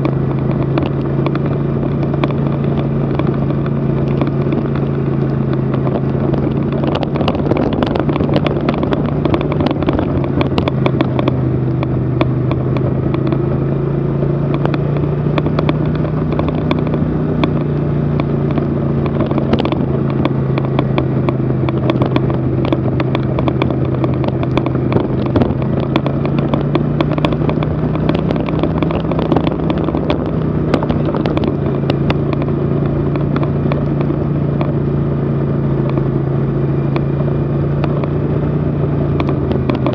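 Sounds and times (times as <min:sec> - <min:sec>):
light clatter and rattle: 0:00.0 - 0:39.9
snowmobile engine running: 0:00.0 - 0:39.9.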